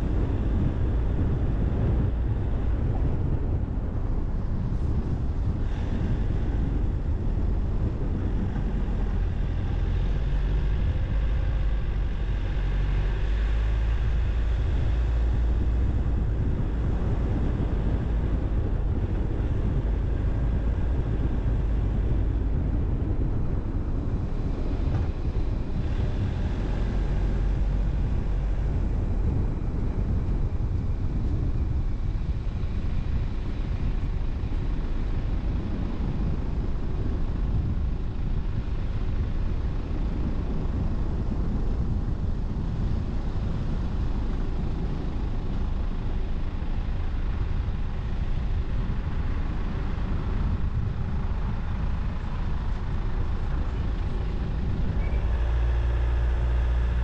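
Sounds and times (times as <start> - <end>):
car driving slowly: 0.0 - 57.0.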